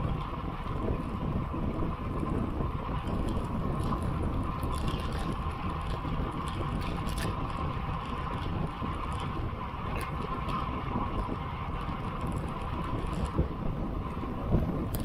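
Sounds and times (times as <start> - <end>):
bicycle tyres rolling on asphalt: 0.0 - 15.0
wind rushing over microphone: 0.0 - 15.0.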